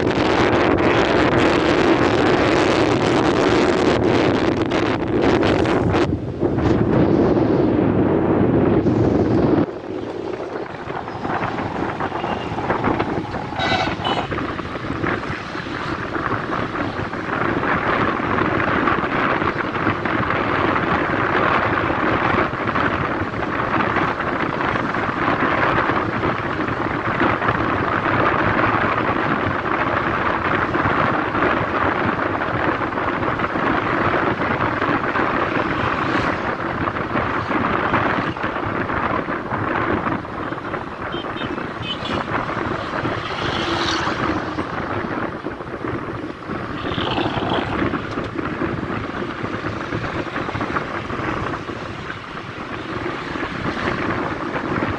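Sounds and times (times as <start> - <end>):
vehicle road and engine noise: 0.0 - 54.9
wind rushing over microphone: 0.0 - 54.9.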